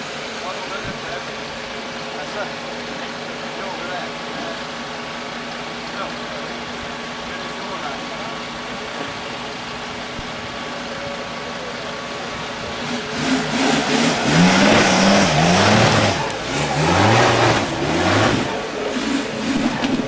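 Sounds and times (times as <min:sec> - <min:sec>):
off-road car engine revving: 0:00.0 - 0:20.0.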